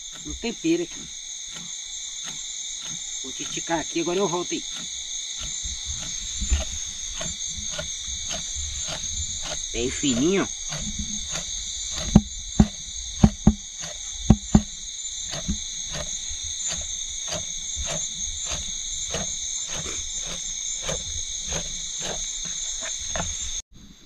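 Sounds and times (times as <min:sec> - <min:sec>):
insects chorus pulsing: 0:00.0 - 0:24.0.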